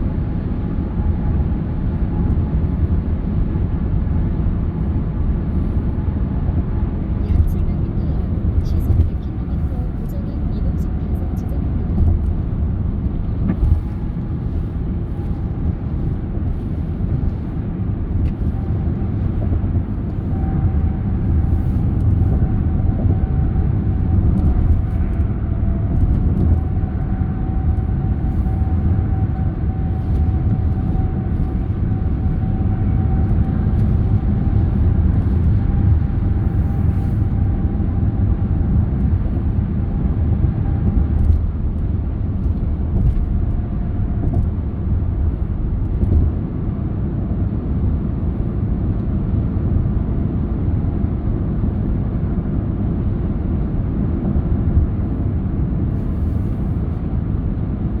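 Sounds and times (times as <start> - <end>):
tyre and engine rumble: 0.0 - 49.8.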